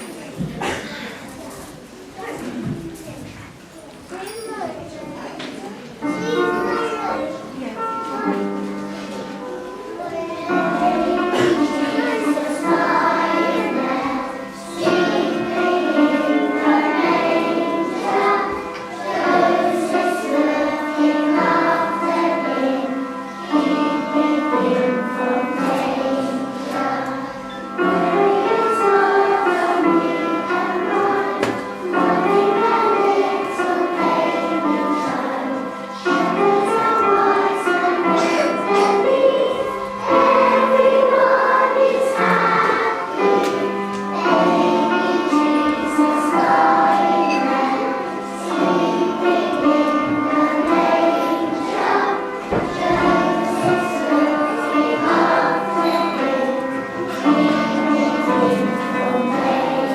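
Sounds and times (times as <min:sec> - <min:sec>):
children's choir singing: 0:00.0 - 0:59.9
instrumental accompaniment: 0:03.8 - 0:59.9.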